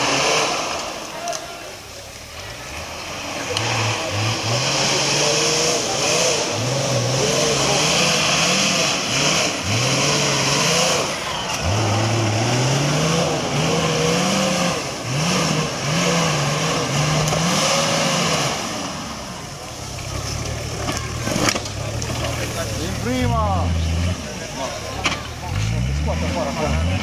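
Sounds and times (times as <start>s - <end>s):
engine revving: 0.0s - 1.4s, 2.4s - 27.0s.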